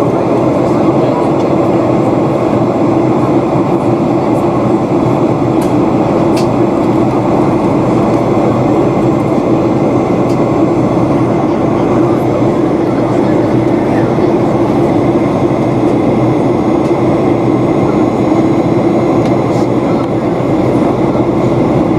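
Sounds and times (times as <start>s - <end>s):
jet engines droning: 0.0s - 21.9s.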